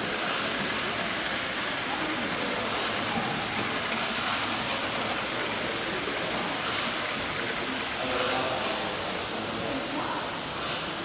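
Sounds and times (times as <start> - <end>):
large hall background noise: 0.0 - 11.0
model train rolling on track: 0.0 - 11.0.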